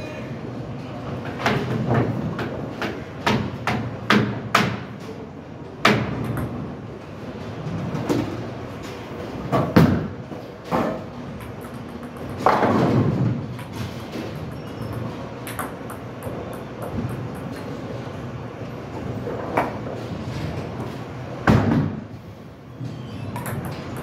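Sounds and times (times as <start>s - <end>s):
bowling lane machinery: 0.6s - 24.0s.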